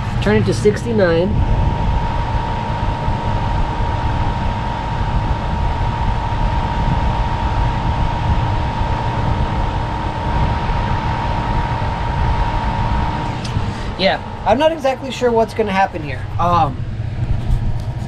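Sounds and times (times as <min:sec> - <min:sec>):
air conditioning unit whirring: 0:00.0 - 0:18.0.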